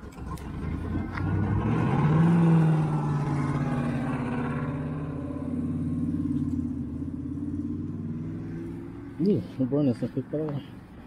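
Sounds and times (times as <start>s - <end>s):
vehicle motor running: 0.0s - 11.0s.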